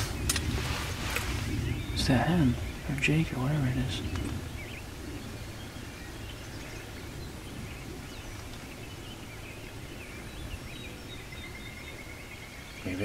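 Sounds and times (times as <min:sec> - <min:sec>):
birds chirping faintly: 0:00.0 - 0:13.0
low steady outdoor rumble: 0:00.0 - 0:13.0.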